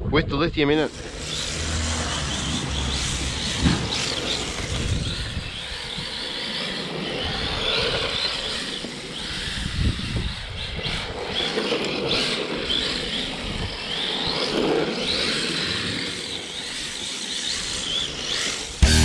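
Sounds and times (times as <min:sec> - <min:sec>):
electric motor whining: 0:00.8 - 0:19.0.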